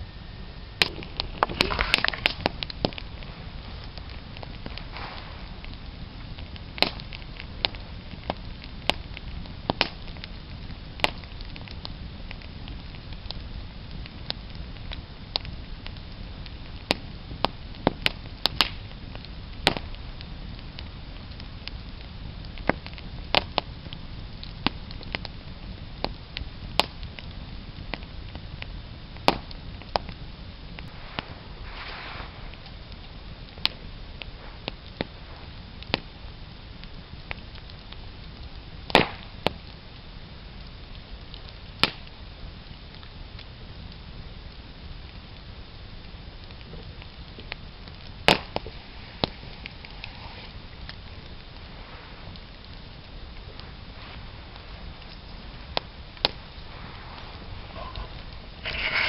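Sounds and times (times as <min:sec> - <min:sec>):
campfire crackling: 0:00.0 - 0:59.0
low background rumble: 0:00.0 - 0:59.0.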